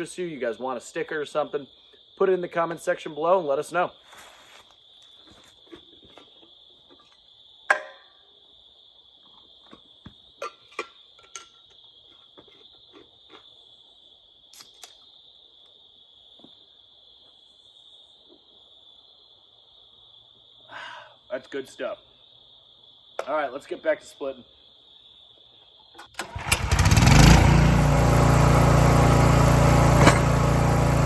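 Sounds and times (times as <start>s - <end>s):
insects chirping chorus: 0.0s - 26.8s.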